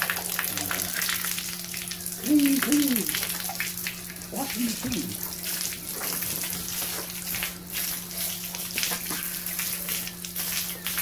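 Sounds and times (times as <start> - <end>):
water spraying from a hose: 0.0 - 11.0.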